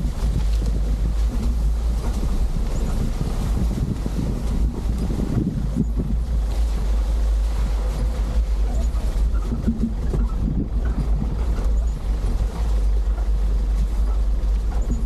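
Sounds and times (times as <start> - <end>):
vehicle rumbling off-road: 0.0 - 15.0
wind buffeting microphone: 0.0 - 15.0.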